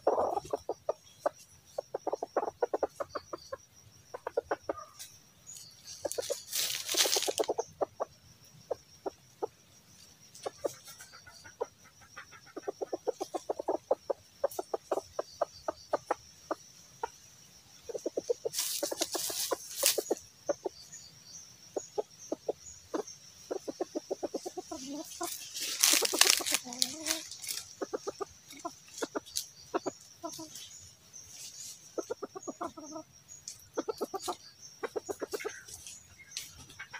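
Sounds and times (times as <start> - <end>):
rooster clucking: 0.0 - 5.1, 5.9 - 8.1, 10.4 - 17.1, 17.8 - 20.9, 21.8 - 30.7, 31.5 - 33.1, 33.7 - 36.9.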